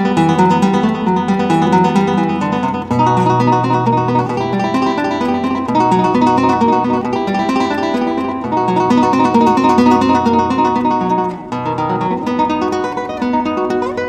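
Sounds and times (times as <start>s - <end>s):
fingerpicked classical guitar: 0.0s - 14.0s.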